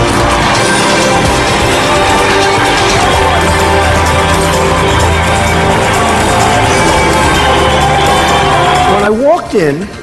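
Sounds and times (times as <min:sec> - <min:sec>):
loud dense music: 0:00.0 - 0:10.0.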